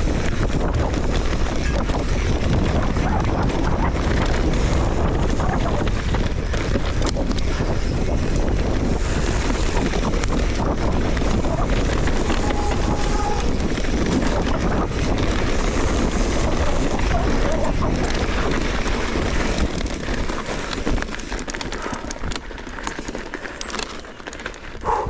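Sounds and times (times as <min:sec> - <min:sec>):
wind buffeting microphone: 0:00.0 - 0:23.4, 0:24.7 - 0:25.0
rattling and knocks from riding: 0:00.0 - 0:25.0.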